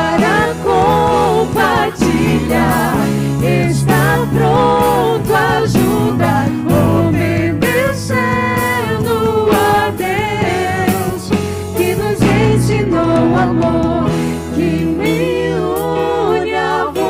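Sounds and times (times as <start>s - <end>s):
band playing: 0.0s - 17.0s
electric bass: 0.0s - 17.0s
people singing worship song: 0.0s - 17.0s.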